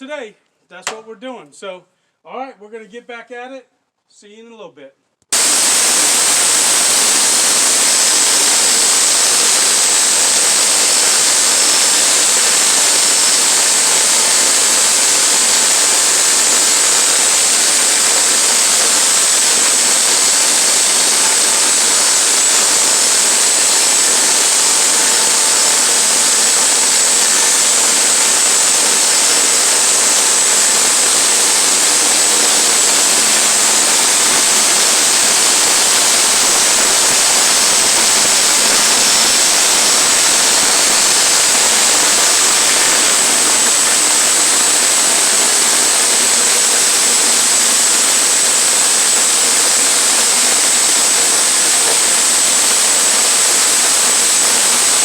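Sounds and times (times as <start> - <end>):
sawmill cutting boards: 5.3 - 55.0.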